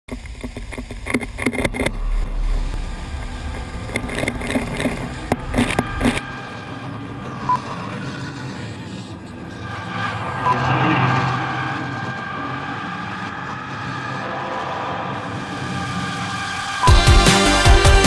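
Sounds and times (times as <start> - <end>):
low rumble: 1.2 - 16.8.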